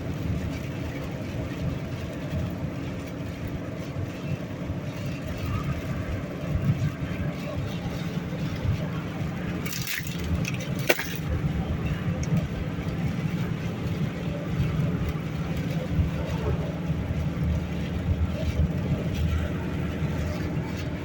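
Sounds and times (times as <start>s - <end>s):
road and wind rumble in car: 0.0s - 21.0s.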